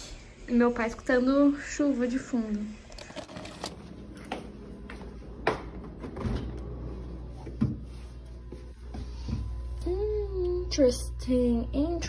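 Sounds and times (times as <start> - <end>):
refrigerator humming: 0.5 - 12.0.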